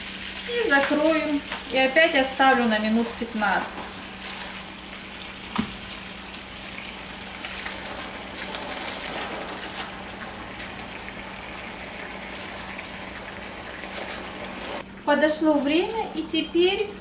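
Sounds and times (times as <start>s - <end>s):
chicken sizzling in a skillet: 0.0s - 14.8s
aluminium foil crinkling: 0.4s - 14.8s, 15.5s - 16.3s.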